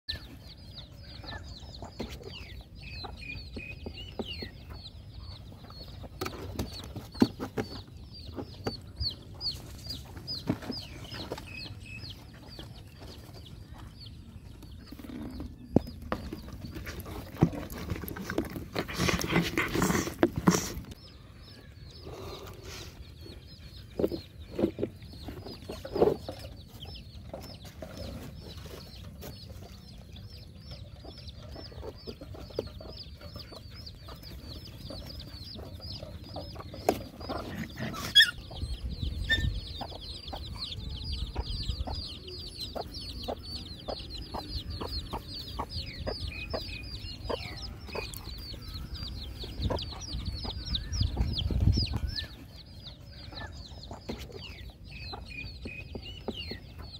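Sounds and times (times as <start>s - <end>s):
birds chirping: 0.1s - 56.9s.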